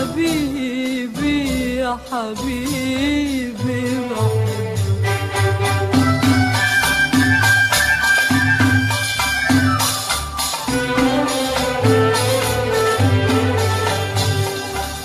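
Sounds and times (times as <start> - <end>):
bass and percussion beat: 0.0 - 15.0
high held melody line: 0.0 - 15.0.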